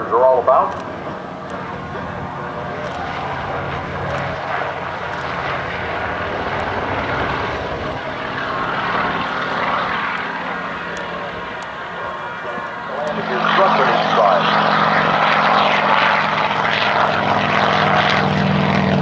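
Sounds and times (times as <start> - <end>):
helicopter engine and rotor drone: 0.0 - 19.0.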